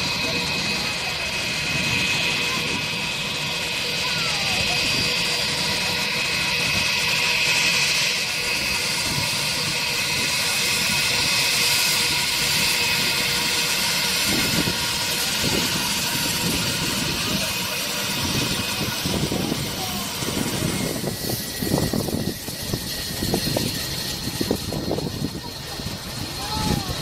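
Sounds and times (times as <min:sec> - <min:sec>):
jet engines idling: 0:00.0 - 0:27.0.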